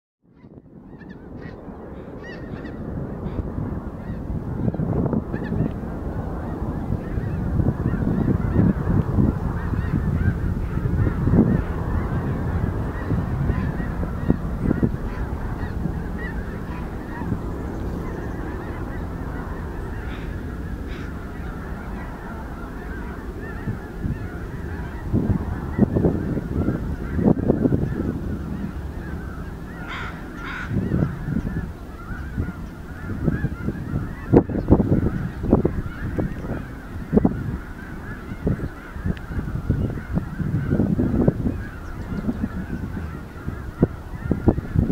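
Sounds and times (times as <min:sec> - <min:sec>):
flock of birds honking: 0:00.4 - 0:44.9.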